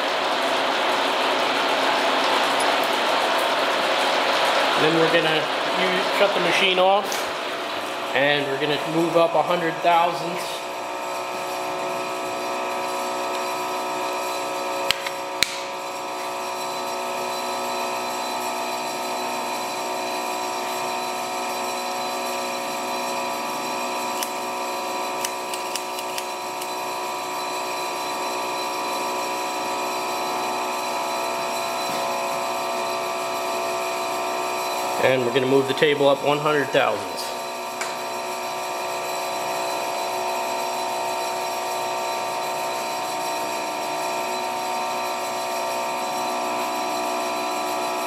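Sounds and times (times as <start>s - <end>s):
machine hum: 0.0s - 48.0s.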